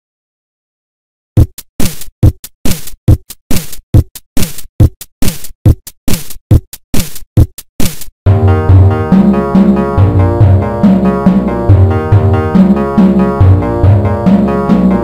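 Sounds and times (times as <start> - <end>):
drum machine kick drum: 1.4 - 15.0.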